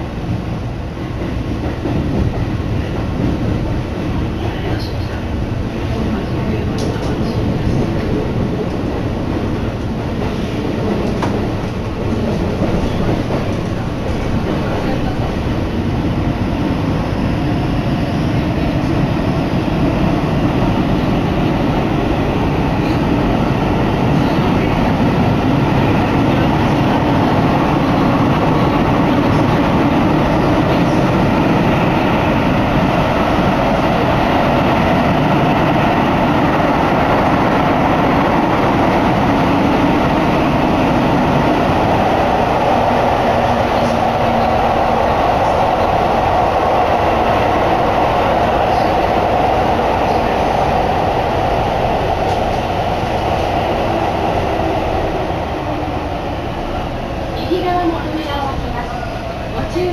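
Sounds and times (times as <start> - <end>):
train wheels rumbling in tunnel: 0.0 - 59.9.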